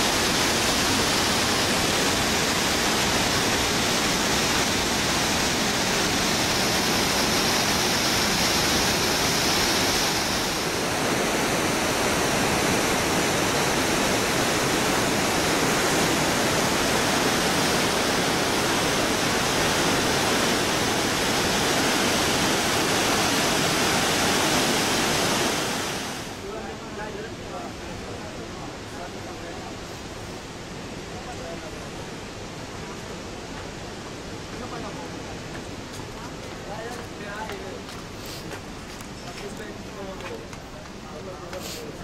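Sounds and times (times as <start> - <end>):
river torrent rushing over boulders: 0.0 - 42.0.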